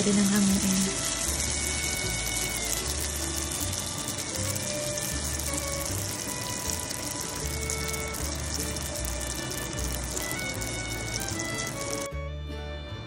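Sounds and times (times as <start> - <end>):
food deep-frying in hot oil: 0.0 - 12.2
background music with low bass: 0.0 - 13.0.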